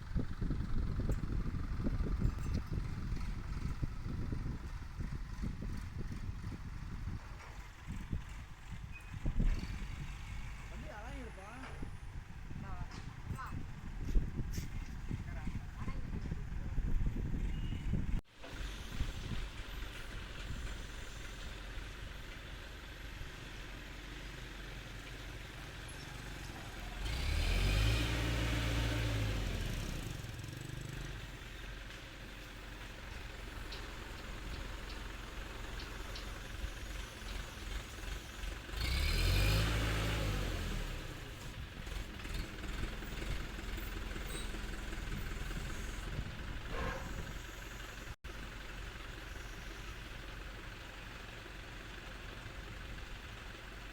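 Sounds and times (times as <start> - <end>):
heavy engine idling and revving: 0.0 - 53.9.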